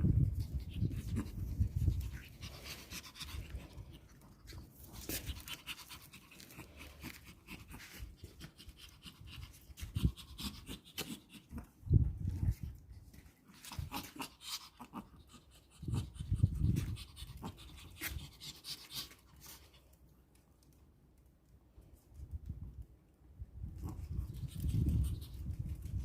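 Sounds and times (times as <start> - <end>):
puppy breathing quickly: 0.0 - 12.9, 13.5 - 19.9, 23.8 - 26.0.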